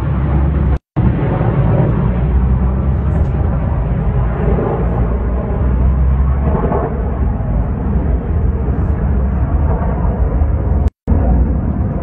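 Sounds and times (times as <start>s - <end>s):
jet airliner engines rumbling: 0.0s - 12.0s.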